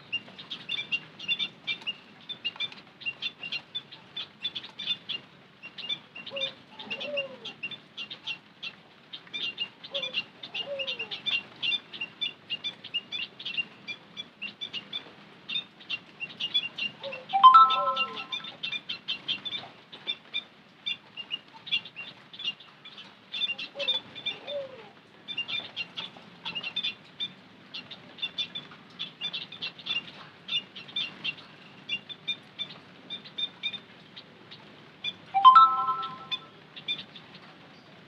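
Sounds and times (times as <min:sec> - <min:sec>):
birds chirping and twittering: 0:00.0 - 0:24.6, 0:25.3 - 0:37.9.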